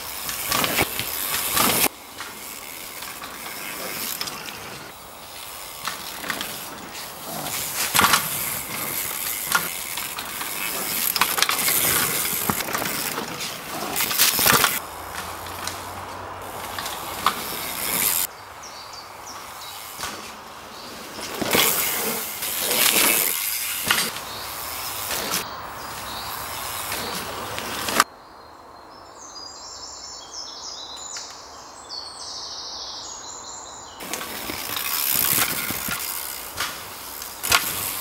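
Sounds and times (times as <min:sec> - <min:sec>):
bike chain and frame clattering: 0:00.0 - 0:18.3, 0:19.2 - 0:28.0, 0:34.0 - 0:38.0
tyres skidding on loose soil: 0:00.0 - 0:28.1, 0:34.0 - 0:38.0.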